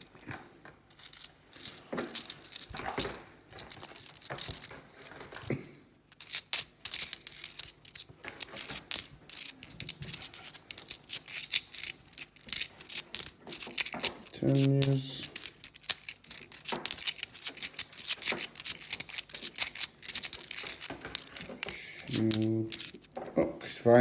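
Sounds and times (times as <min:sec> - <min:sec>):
coins clinking in hand: 0:00.9 - 0:23.1.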